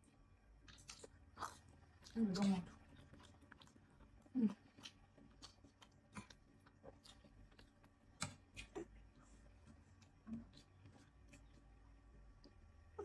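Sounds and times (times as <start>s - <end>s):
person chewing: 0.6s - 11.8s.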